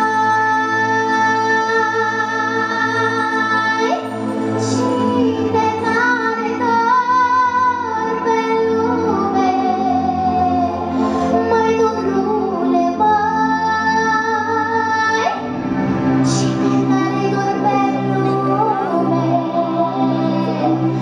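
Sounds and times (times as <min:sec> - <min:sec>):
girl singing into microphone: 0:00.0 - 0:15.5, 0:16.2 - 0:21.0
backing music: 0:00.0 - 0:21.0.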